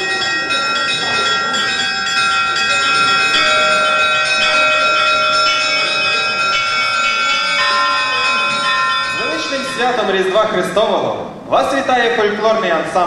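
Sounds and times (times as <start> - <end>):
bells ringing: 0.0 - 12.2.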